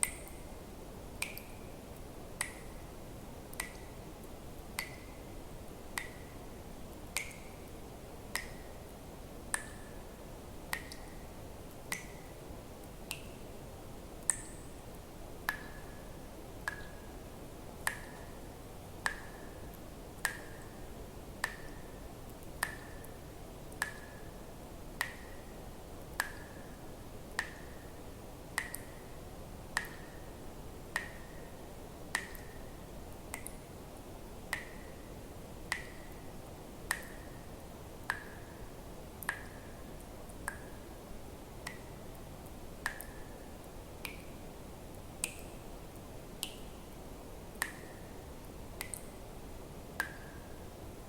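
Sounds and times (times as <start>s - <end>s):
faint steady hiss: 0.0s - 51.0s.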